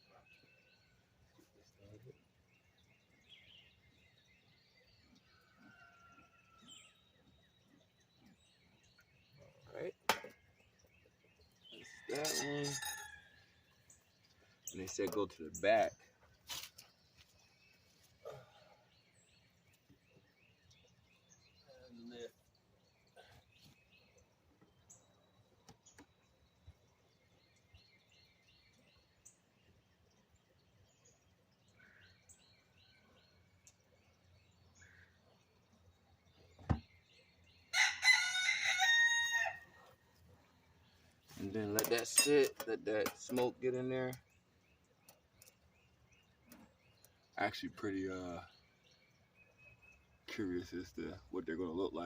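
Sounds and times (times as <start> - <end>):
faint birds chirping and whistling: 0.0 - 52.0.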